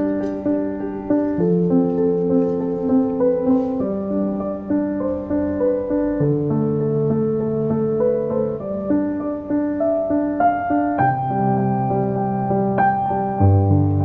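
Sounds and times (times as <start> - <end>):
gentle piano piece: 0.0 - 14.0.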